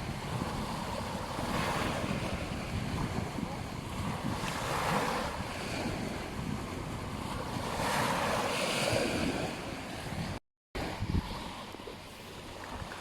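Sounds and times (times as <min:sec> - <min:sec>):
ocean surf washing onto beach: 0:00.0 - 0:13.0
wind rumbling on microphone: 0:00.0 - 0:13.0.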